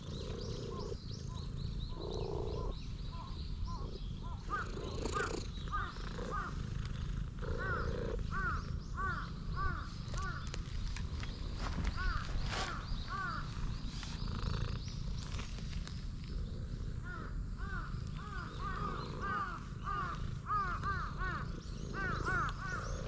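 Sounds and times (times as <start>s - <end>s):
birds calling: 0.0s - 23.0s
cat purring loudly: 0.0s - 23.0s.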